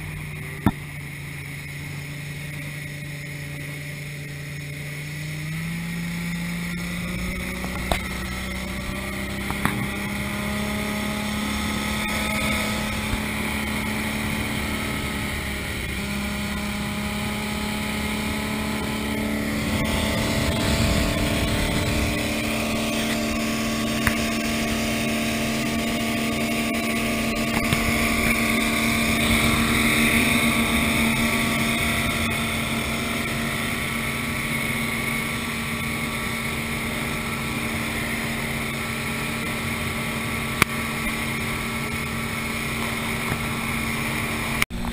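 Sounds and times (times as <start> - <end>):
boat engine running: 0.0 - 44.9
water noise: 0.0 - 44.9
wind: 0.0 - 44.9.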